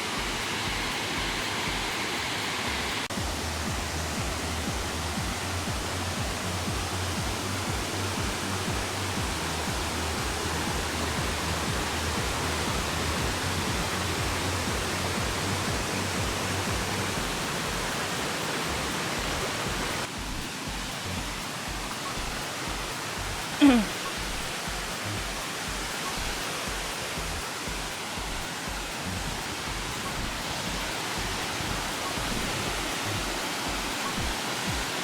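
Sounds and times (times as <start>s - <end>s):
waterfall roaring: 0.0s - 35.0s.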